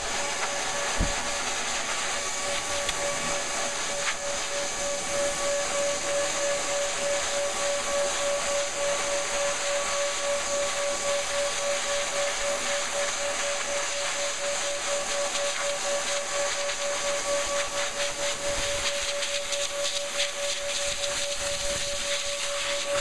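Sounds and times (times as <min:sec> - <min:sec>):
dog blow dryer running: 0:00.0 - 0:23.0.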